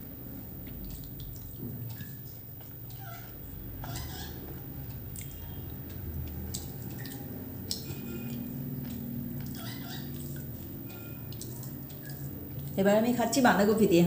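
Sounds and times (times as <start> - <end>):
low steady hum: 0.0 - 14.0
eating mouth noises: 0.7 - 12.8.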